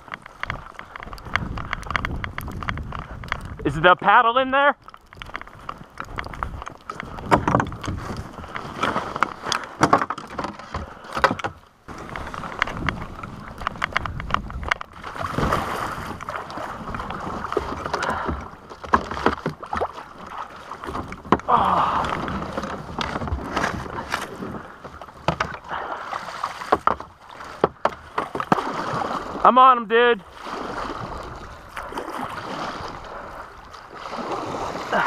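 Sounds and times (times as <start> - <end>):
kayak hull scraping snow: 0.0 - 35.0
paddle clunking against hull: 0.0 - 35.0.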